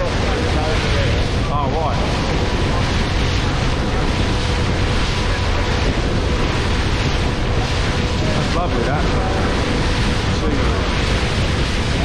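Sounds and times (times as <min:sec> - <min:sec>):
water rushing past boat: 0:00.0 - 0:12.0
wind buffeting microphone: 0:00.0 - 0:12.0.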